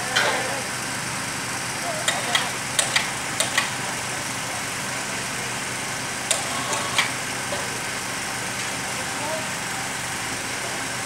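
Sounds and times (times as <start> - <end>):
engine-like hum: 0.0 - 11.0.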